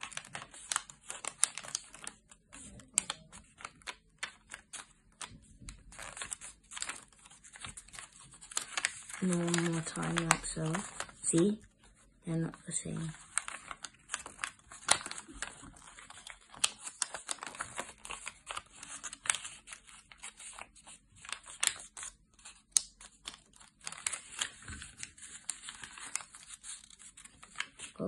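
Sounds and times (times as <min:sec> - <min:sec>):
paper crinkling as folded: 0:00.0 - 0:28.0.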